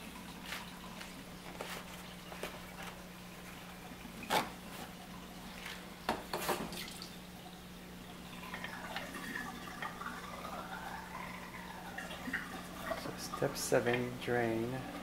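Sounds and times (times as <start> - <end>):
drain pump humming: 0.0 - 15.0
water gurgling and dripping: 0.0 - 15.0.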